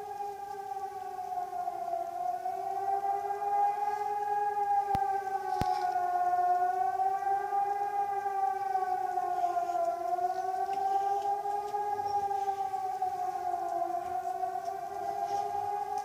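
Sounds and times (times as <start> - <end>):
air-raid siren wavering tone: 0.0 - 16.0.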